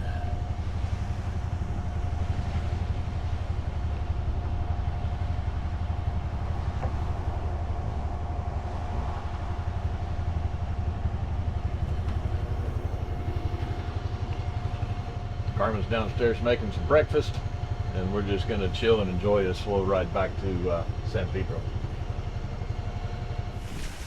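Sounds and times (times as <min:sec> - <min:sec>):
boat engine running: 0:00.0 - 0:24.0
faint steady whine: 0:00.0 - 0:24.0.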